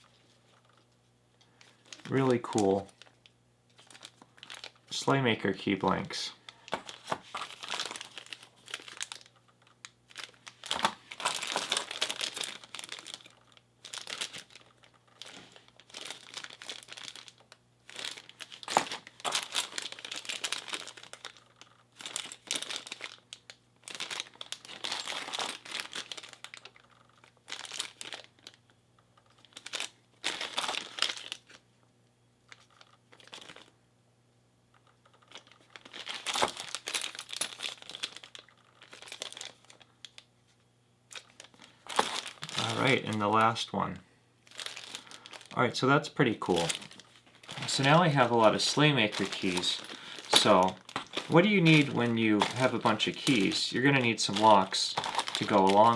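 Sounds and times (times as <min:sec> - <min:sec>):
plastic bag crinkling: 0:01.5 - 0:05.0, 0:06.5 - 0:28.6, 0:29.2 - 0:31.6, 0:32.5 - 0:33.7, 0:34.8 - 0:40.3, 0:41.1 - 0:43.6, 0:44.4 - 0:55.9.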